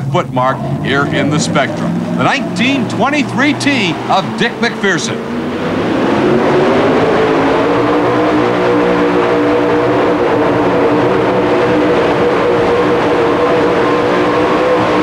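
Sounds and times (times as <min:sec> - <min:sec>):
engine at full throttle: 0:00.0 - 0:15.0.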